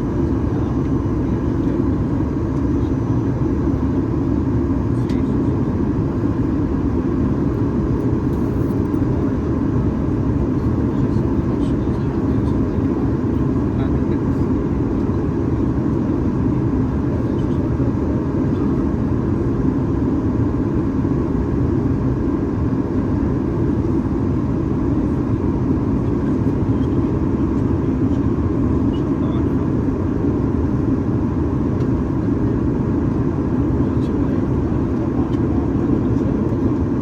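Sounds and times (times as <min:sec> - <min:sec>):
airplane cabin noise: 0:00.0 - 0:37.0.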